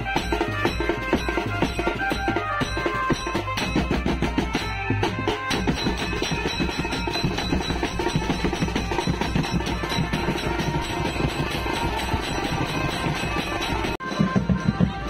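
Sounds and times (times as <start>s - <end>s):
hand cymbals: 0.0s - 15.0s
snare drums beaten with sticks: 0.0s - 15.0s.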